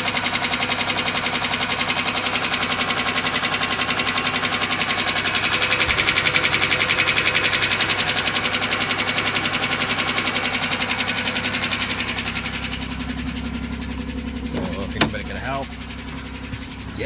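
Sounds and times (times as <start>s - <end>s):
car engine idling: 0.0s - 17.0s
rapid engine knocking: 0.0s - 17.0s.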